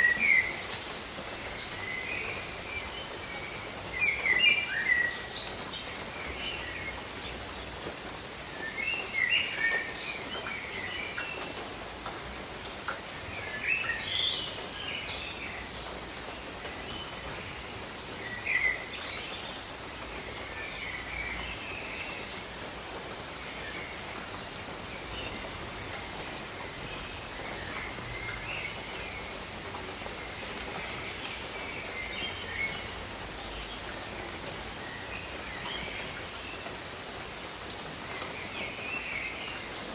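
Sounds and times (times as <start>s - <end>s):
songbirds chirping: 0.0s - 39.9s
steady rain falling: 0.0s - 39.9s.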